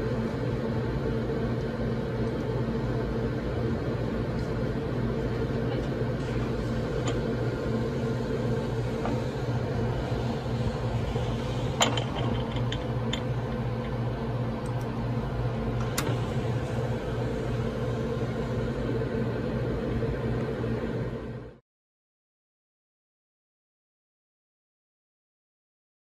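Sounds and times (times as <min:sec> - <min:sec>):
lab equipment humming: 0:00.0 - 0:21.6.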